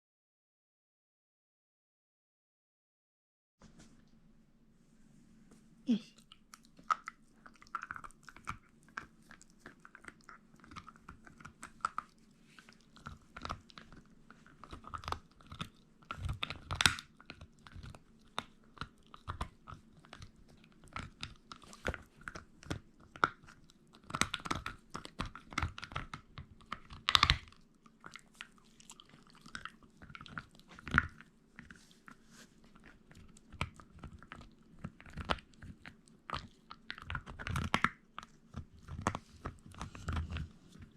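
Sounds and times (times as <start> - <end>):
faint steady hum: 3.6 - 40.9
dog crunching and chewing meat: 6.2 - 40.9.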